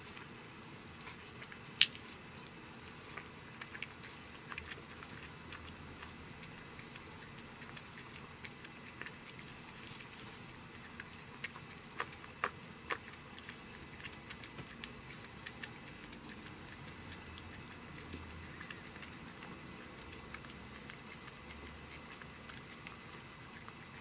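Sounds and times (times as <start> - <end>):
cat chewing and licking: 0.0 - 24.0.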